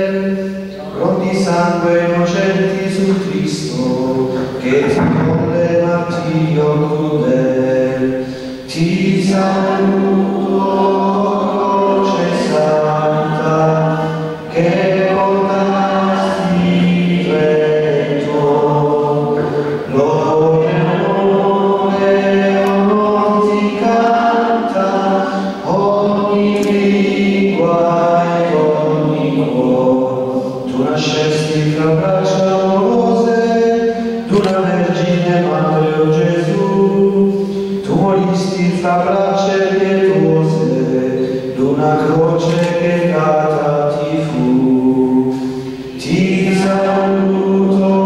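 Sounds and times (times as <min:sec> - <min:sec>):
congregation singing a hymn: 0:00.0 - 0:48.0.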